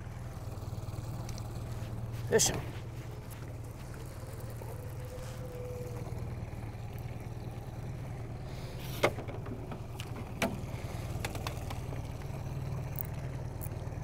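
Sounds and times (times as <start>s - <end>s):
outboard motor humming: 0.0s - 14.0s.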